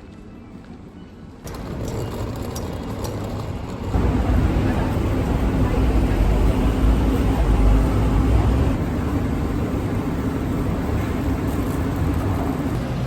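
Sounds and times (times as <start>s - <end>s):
vehicle engine rumbling: 1.5s - 13.0s.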